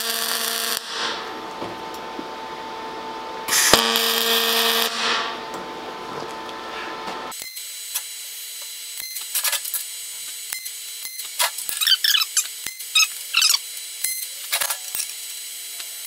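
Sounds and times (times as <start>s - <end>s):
welder arc buzzing: 0.0s - 16.0s
welding arc crackling: 0.0s - 16.0s.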